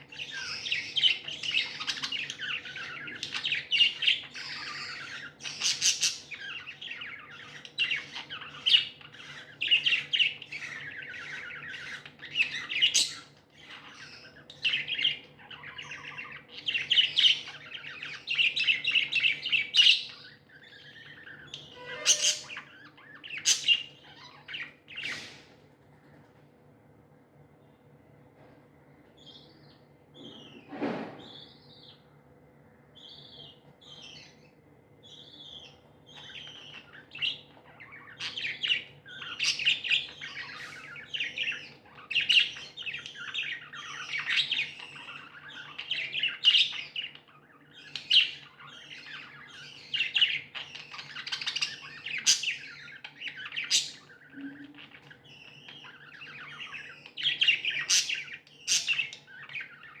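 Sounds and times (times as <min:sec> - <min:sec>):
budgerigars chirping: 0:00.0 - 0:25.5, 0:33.0 - 1:00.0.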